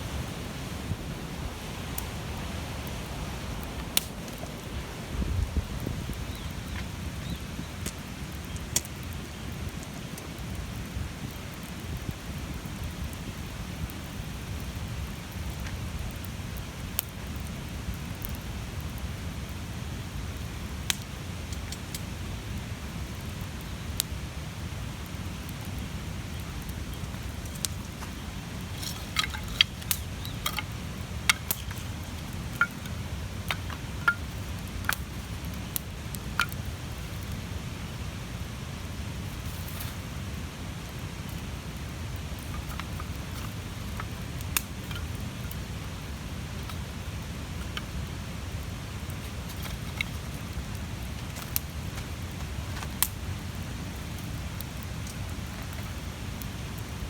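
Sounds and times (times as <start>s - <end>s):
fire crackling and popping: 0.0s - 57.0s
flames rushing: 0.0s - 57.0s.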